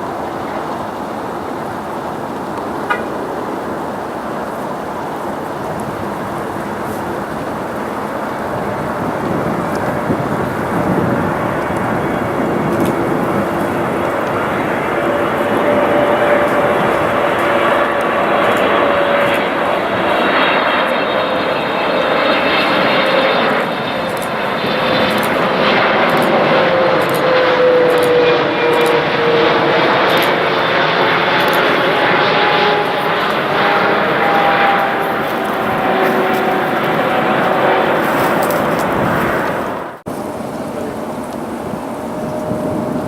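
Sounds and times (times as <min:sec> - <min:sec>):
jet airliner engines passing: 0:00.0 - 0:43.0.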